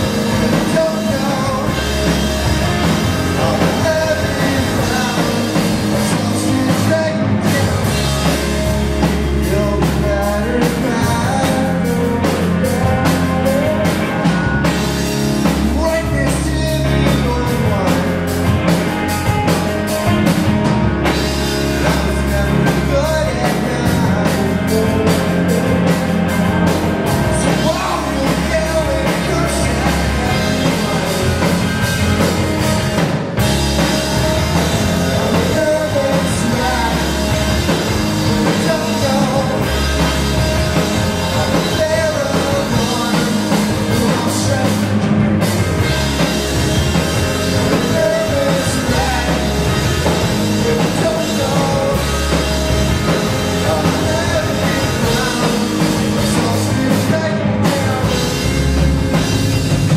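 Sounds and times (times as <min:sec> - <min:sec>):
person singing: 0:00.0 - 0:19.4, 0:21.3 - 0:45.1, 0:47.3 - 0:58.9
drum kit: 0:00.0 - 0:59.9
electric guitar: 0:00.0 - 0:59.9.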